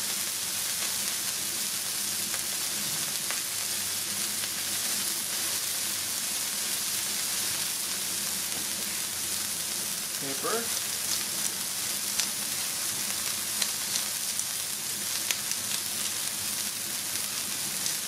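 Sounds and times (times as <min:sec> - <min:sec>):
burger patties sizzling on griddle: 0:00.0 - 0:18.0.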